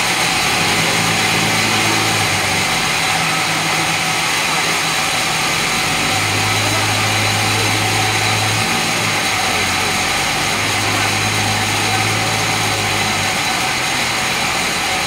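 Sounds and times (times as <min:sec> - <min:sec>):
sawmill machinery droning: 0:00.0 - 0:15.0.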